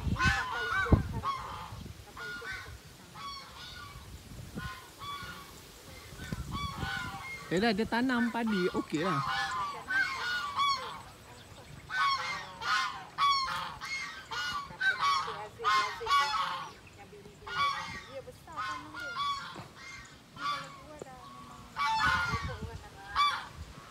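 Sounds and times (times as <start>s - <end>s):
geese honking: 0.0s - 23.9s.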